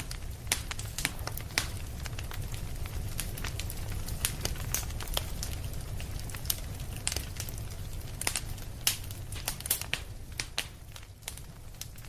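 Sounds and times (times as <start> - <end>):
campfire crackling and popping: 0.0 - 12.0
low rumble of flames: 0.0 - 12.0.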